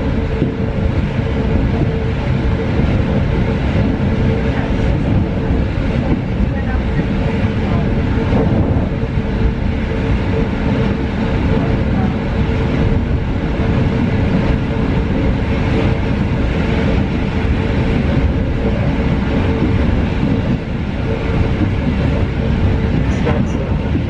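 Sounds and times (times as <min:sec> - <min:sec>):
constant hum: 0:00.0 - 0:24.0
train wheels rumbling on track: 0:00.0 - 0:24.0.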